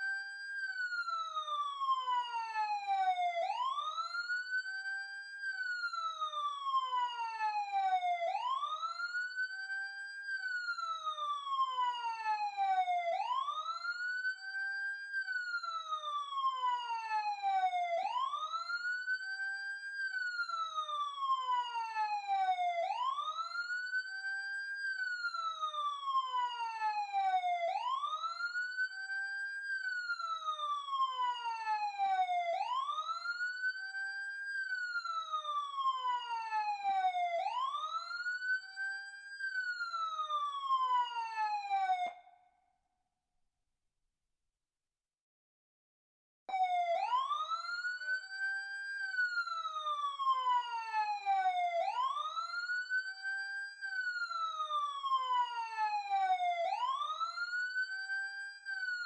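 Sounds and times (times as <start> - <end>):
emergency siren wailing: 0.3 - 42.4, 46.5 - 59.0.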